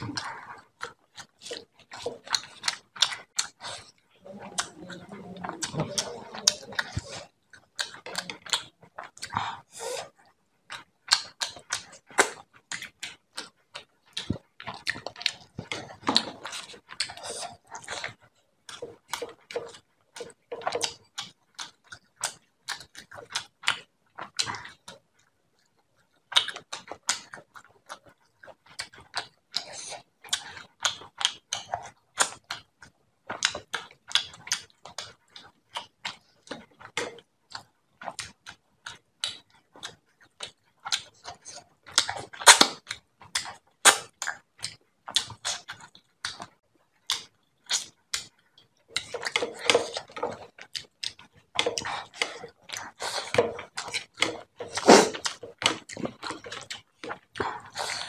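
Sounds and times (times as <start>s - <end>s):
wet chewing and lip-smacking: 0.0s - 58.0s.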